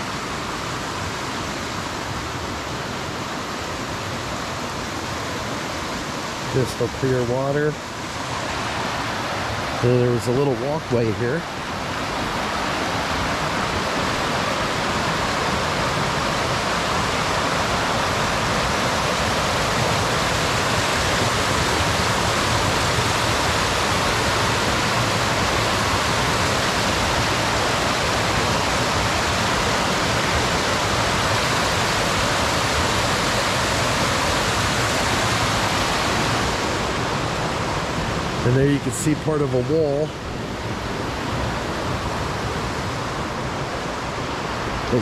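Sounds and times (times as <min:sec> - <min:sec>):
creek water rushing over rocks: 0:00.0 - 0:45.0.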